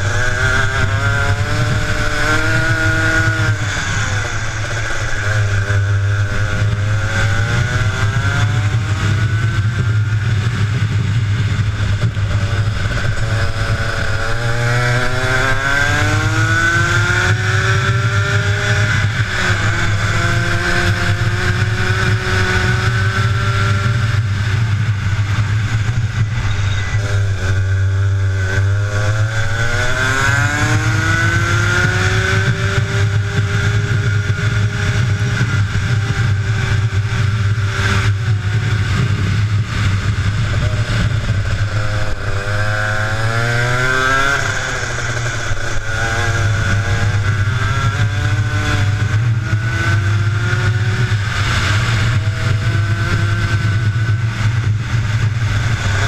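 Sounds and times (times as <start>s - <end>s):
kart engine revving: 0.0s - 56.0s
steady low drone: 0.0s - 56.0s.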